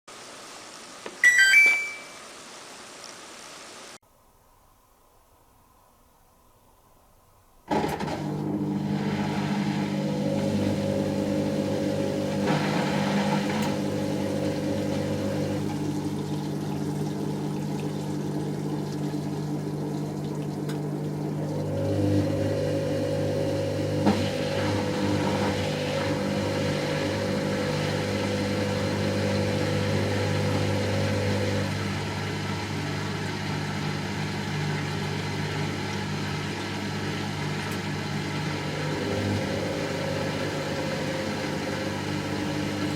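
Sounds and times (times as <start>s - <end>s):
washing machine spinning: 7.7s - 42.9s.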